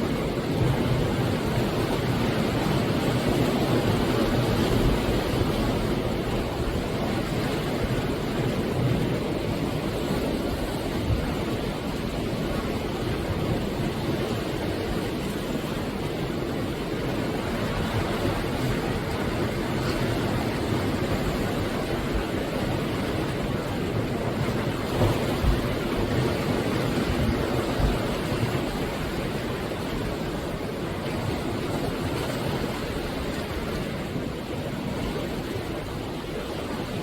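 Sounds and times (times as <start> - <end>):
sea waves breaking on shore: 0.0 - 37.0.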